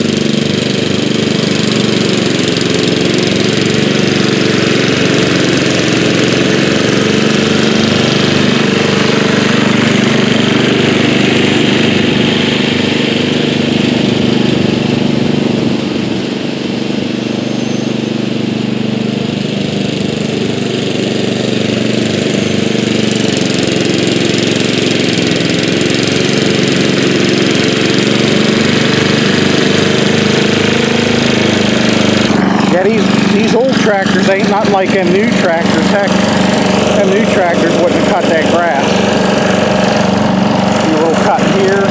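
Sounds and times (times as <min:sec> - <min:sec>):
lawn tractor engine running: 0:00.0 - 0:41.9.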